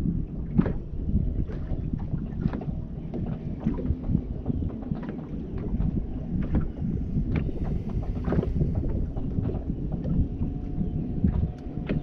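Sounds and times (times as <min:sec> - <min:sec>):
waves slapping against boat hull: 0:00.0 - 0:12.0
wind buffeting microphone: 0:00.0 - 0:12.0.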